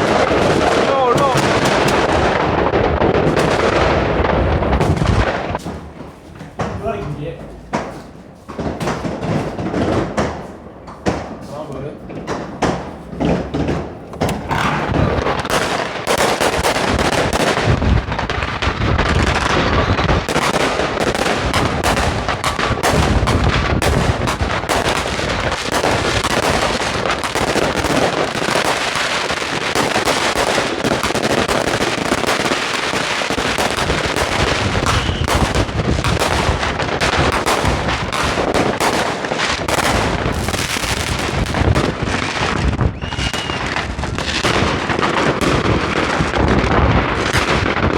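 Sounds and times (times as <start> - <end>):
crackling firecrackers: 0.0 - 47.9
deep fireworks booms: 0.0 - 47.9
fireworks bangs: 0.0 - 47.9.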